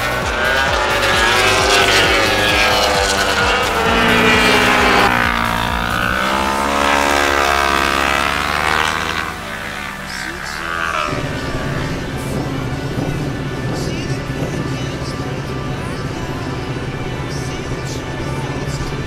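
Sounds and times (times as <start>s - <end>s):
racing motorbikes passing at speed: 0.0s - 19.0s.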